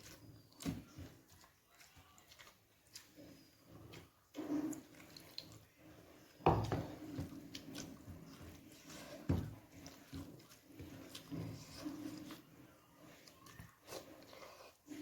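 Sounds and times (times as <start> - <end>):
wet chewing and smacking: 0.0 - 15.0.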